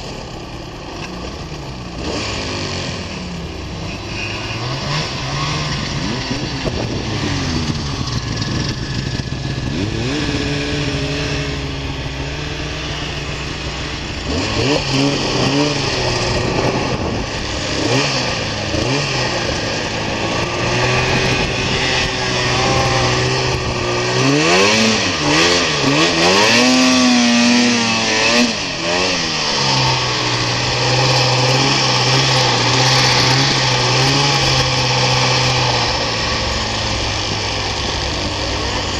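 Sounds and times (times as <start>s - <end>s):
snowmobile engines revving: 0.0s - 38.9s.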